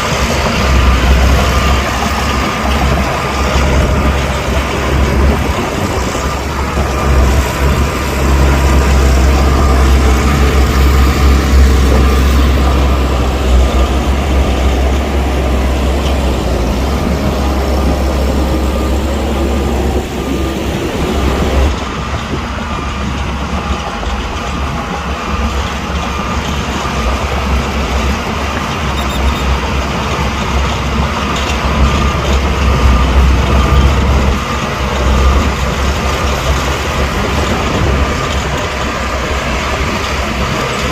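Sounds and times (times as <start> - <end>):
heavy diesel machinery rumbling: 0.0 - 40.9.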